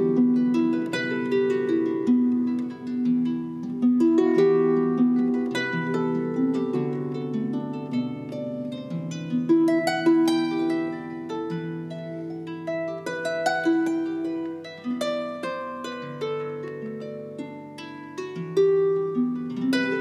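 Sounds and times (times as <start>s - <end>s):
harp melody: 0.0s - 20.0s.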